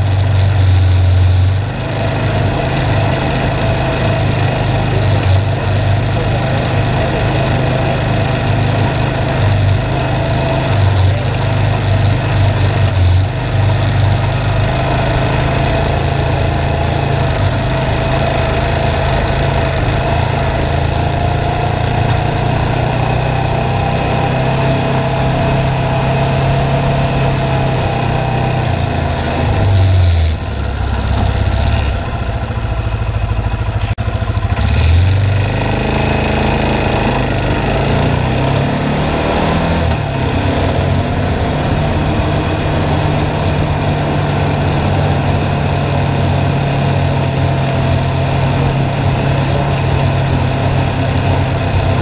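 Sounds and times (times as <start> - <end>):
atv engine running: 0.0 - 52.0.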